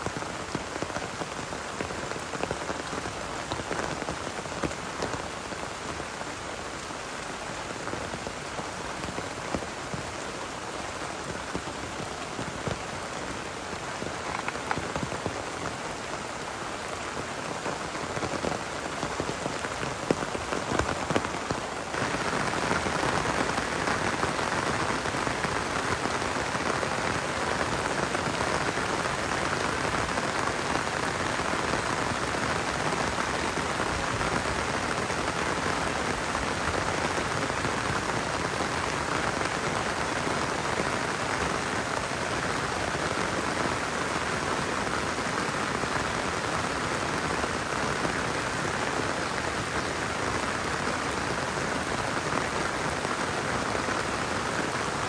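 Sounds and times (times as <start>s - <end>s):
heavy rain falling: 0.0s - 55.0s
raindrops hitting surfaces: 0.0s - 55.0s.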